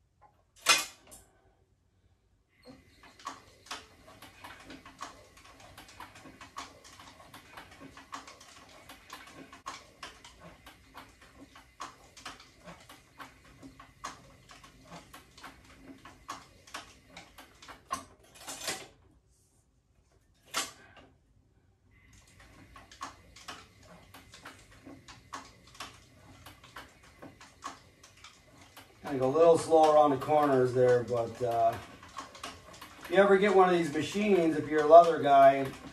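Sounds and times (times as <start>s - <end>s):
sewing machine stitching leather: 2.5s - 19.1s, 22.0s - 35.9s.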